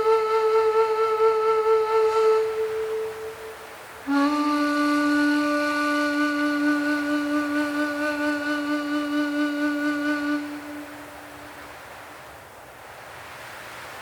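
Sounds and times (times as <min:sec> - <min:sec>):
held flute-like woodwind note: 0:00.0 - 0:11.7
soft wind-like hiss: 0:00.0 - 0:14.0.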